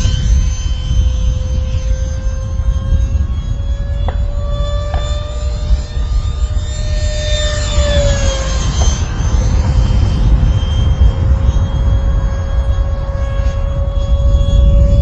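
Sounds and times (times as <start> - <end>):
electric jet fan whining: 0.0 - 15.0
wind rumble on microphone: 0.0 - 15.0.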